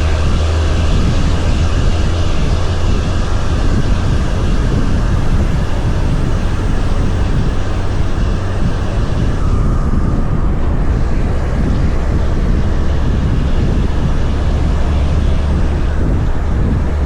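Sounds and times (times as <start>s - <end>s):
road noise: 0.0s - 17.0s
truck diesel engine droning: 0.0s - 17.0s.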